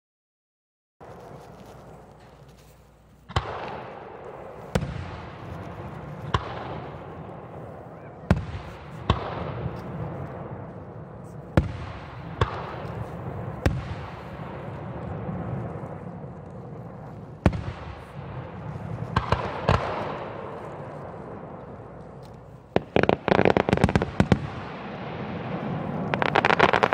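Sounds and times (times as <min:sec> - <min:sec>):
firework bangs with echo: 0:03.3 - 0:22.0, 0:22.7 - 0:26.9.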